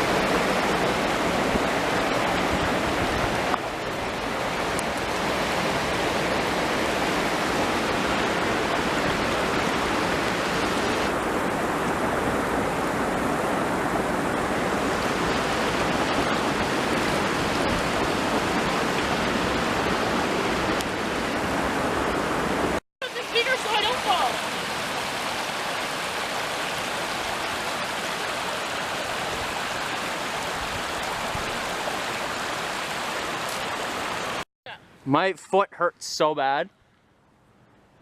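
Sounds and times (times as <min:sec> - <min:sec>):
waterfall rushing: 0:00.0 - 0:34.4.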